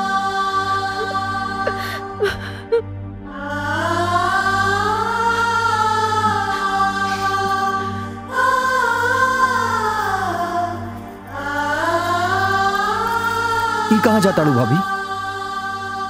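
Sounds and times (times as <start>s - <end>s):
steady low drone: 0.0s - 14.7s
wordless vocal melody: 0.0s - 16.0s.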